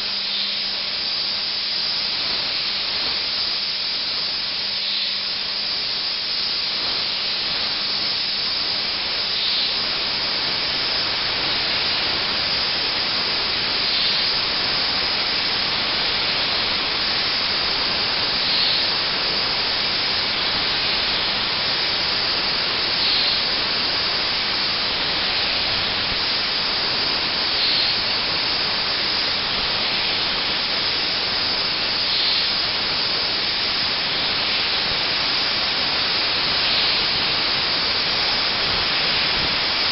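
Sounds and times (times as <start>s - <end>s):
milling machine cutting hiss: 0.0s - 39.9s.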